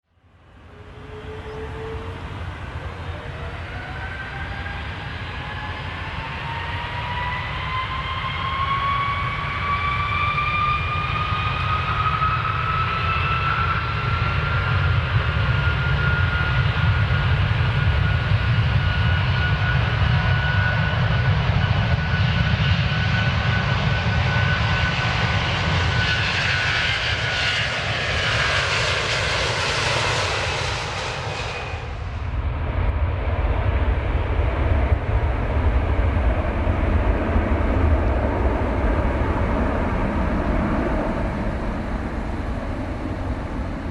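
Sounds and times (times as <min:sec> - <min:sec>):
airplane engine whine: 0:00.0 - 0:43.9.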